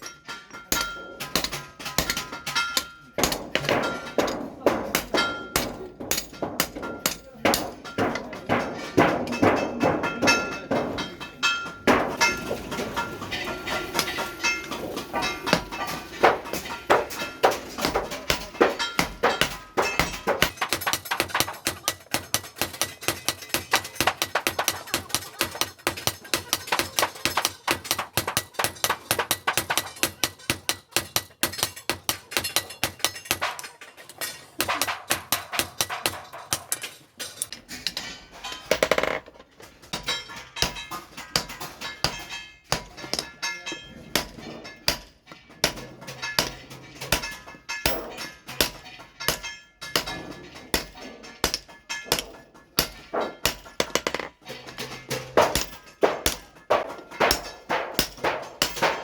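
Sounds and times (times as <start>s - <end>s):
hammer striking hot steel on anvil: 0.0s - 39.1s, 39.9s - 59.0s.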